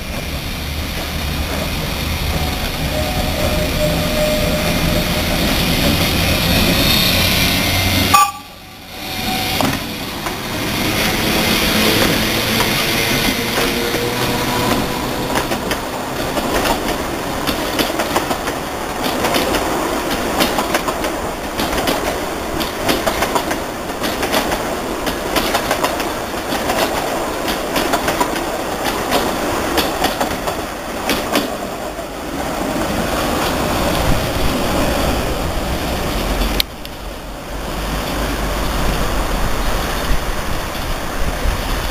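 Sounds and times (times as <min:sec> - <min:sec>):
train wheels clicking over rail joints: 0:00.0 - 0:08.1, 0:08.9 - 0:37.1
train rumble: 0:00.0 - 0:41.9.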